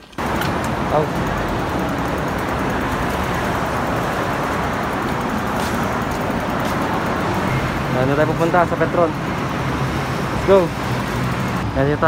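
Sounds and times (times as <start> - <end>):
rushing road and traffic noise: 0.0 - 12.0.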